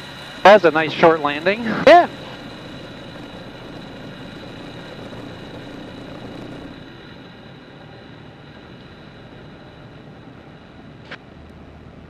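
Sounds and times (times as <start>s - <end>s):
light aircraft engine idling: 0.0s - 12.0s.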